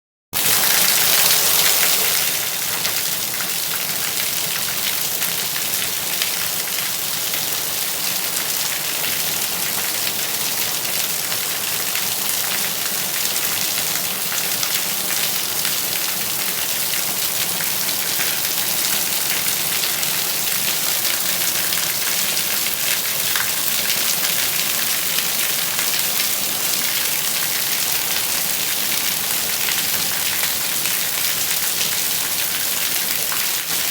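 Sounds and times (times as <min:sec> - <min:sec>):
steady rain falling: 0:00.5 - 0:33.9.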